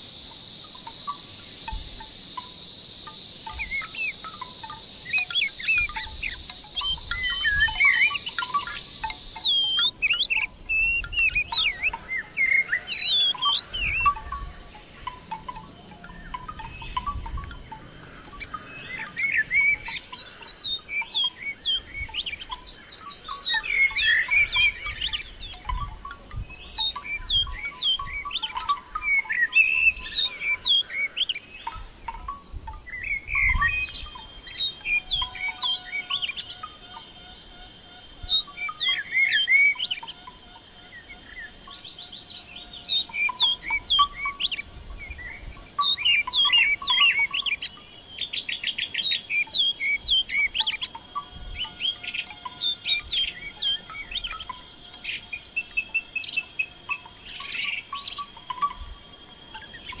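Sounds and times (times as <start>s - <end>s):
high insect drone: 0.0s - 60.0s
songbirds chirping: 0.0s - 60.0s
fast bird trill: 3.4s - 36.9s, 42.8s - 58.9s.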